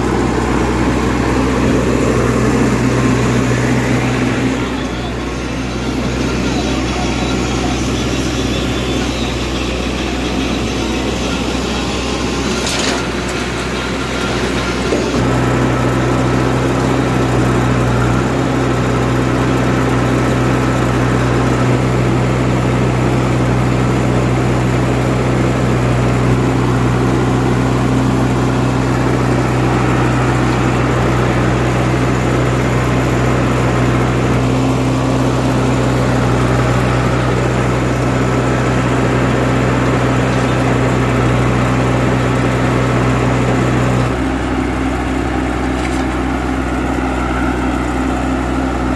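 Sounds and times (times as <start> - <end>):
heavy diesel engine droning: 0.0 - 48.9.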